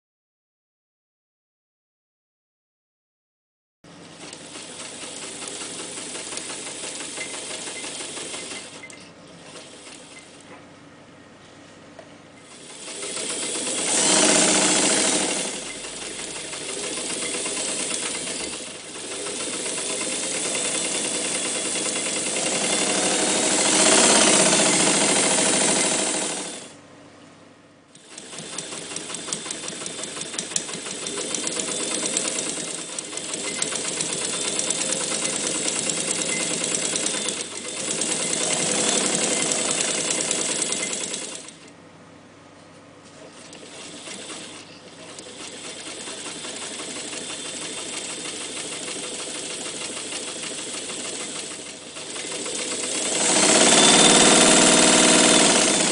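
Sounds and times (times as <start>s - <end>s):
sewing machine stitching: 3.9s - 10.5s, 12.4s - 26.8s, 27.9s - 41.7s, 43.2s - 55.9s.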